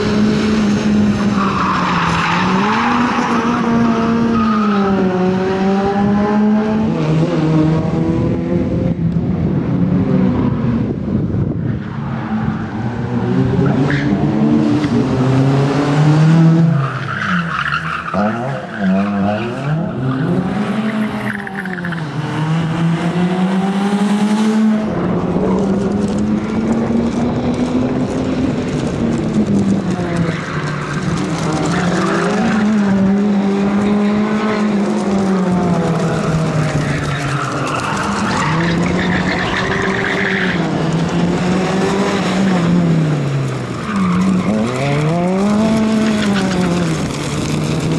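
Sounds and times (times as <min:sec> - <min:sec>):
rally car engine revving: 0:00.0 - 0:09.1, 0:12.1 - 0:47.9.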